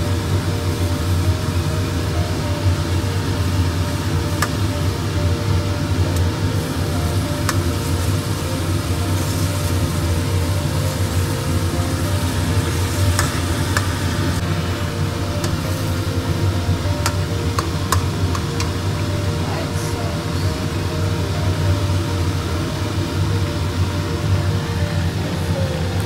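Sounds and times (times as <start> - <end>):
food sizzling in a wok: 0.0 - 26.0
steady low hum: 0.0 - 26.0.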